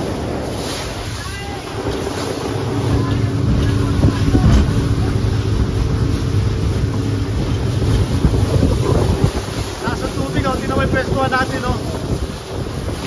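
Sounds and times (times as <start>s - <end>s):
motorboat engine humming: 0.0s - 13.0s
water splashing along hull: 0.0s - 13.0s.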